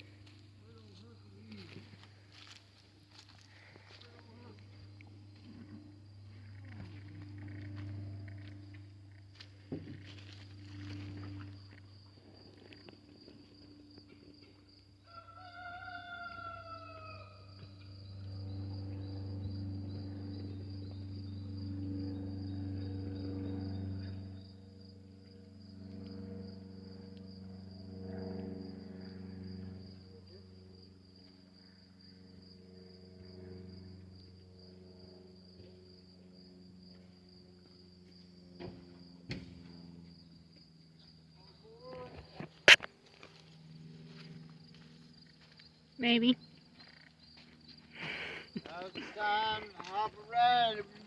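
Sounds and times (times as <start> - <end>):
low steady hum: 0.0 - 15.1, 16.3 - 51.0
insects trilling: 0.0 - 51.0.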